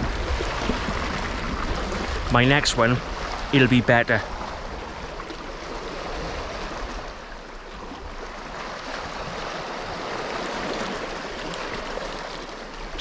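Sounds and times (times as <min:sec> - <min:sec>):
sea water washing over rocks: 0:00.0 - 0:13.0.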